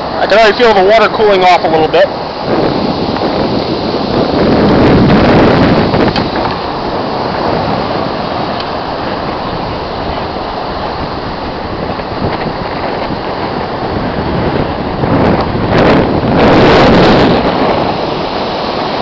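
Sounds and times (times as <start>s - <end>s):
ocean surf washing in: 0.0s - 19.0s
wind buffeting microphone: 0.0s - 19.0s.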